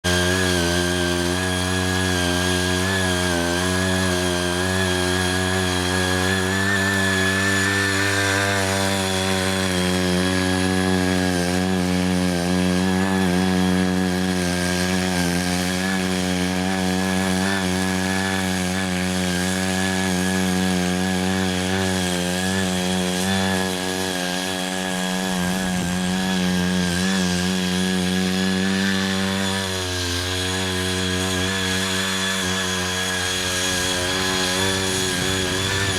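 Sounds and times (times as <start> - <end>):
power tiller engine running: 0.0 - 35.9.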